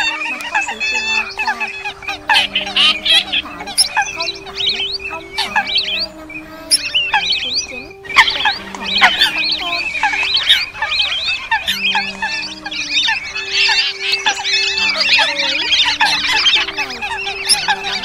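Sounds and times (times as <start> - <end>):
low held tones: 0.0 - 18.0
wetland bird calls: 0.0 - 18.0.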